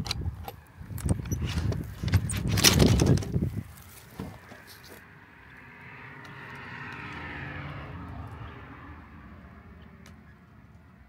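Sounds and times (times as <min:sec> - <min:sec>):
passing engine: 0:00.7 - 0:11.0.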